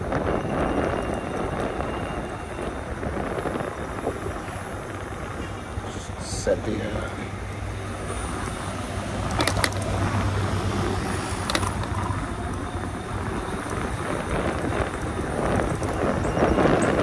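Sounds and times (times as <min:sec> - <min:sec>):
bike rattling: 0:00.0 - 0:17.0.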